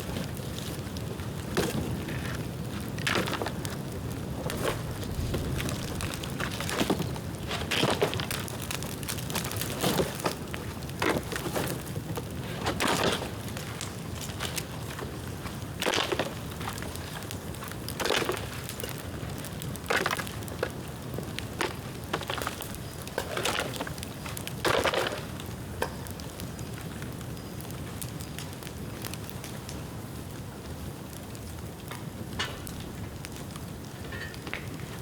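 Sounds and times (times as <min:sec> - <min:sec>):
bamboo crackling: 0:00.0 - 0:35.0
bonfire flame rumble: 0:00.0 - 0:35.0.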